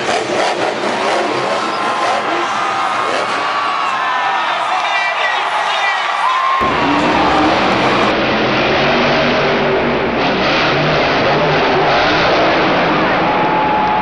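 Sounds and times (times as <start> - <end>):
monster truck engine revving: 0.0 - 4.8, 6.4 - 14.0.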